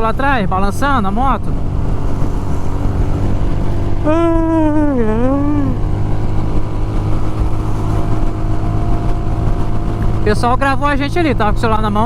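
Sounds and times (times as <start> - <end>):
motorcycle engine drone: 0.0 - 12.0
wind rushing over microphone: 0.0 - 12.0.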